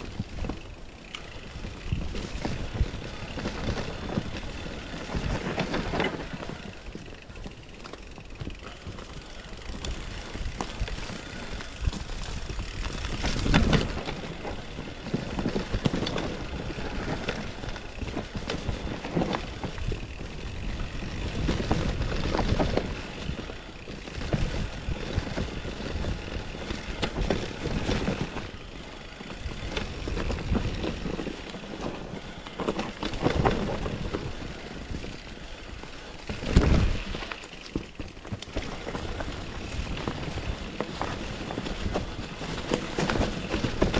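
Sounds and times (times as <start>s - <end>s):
bike jolting over bumps: 0.0s - 43.9s
bike tyres rumbling over rocks: 0.0s - 43.9s.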